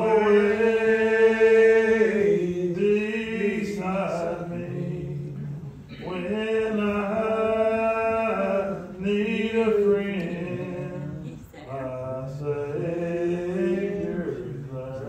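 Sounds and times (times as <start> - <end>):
man singing a hymn: 0.0 - 15.0.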